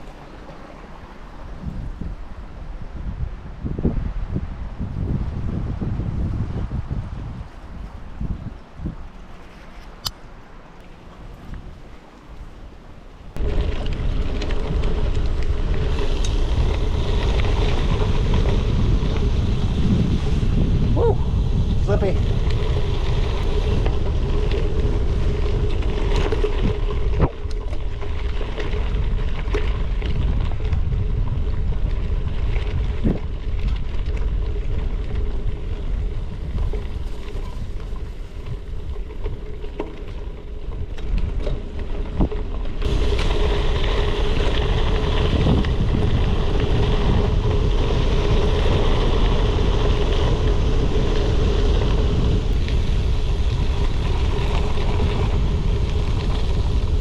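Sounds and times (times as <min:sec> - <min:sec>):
tyres rolling on trail: 0:00.0 - 0:57.0
wind buffeting microphone: 0:00.0 - 0:57.0.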